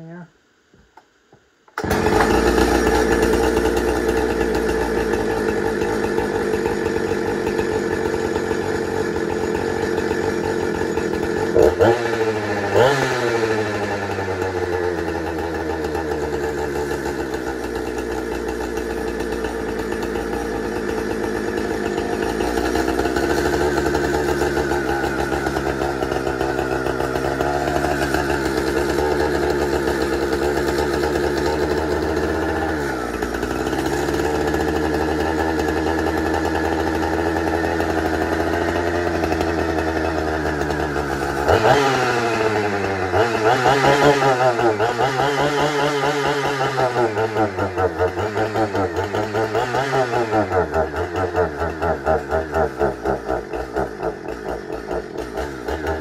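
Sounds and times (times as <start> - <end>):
chainsaw engine running: 0.0 - 56.0.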